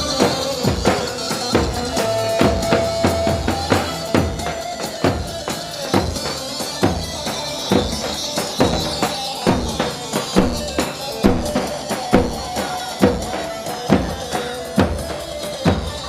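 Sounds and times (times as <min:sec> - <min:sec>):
heavy drum beat: 0:00.0 - 0:16.0.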